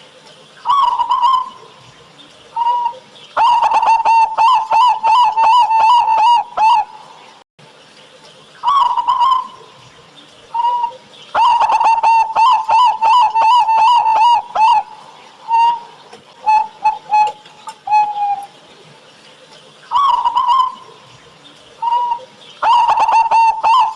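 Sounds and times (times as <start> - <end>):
dove cooing: 0.7 - 7.2, 8.6 - 9.9, 10.6 - 18.6, 19.9 - 23.9.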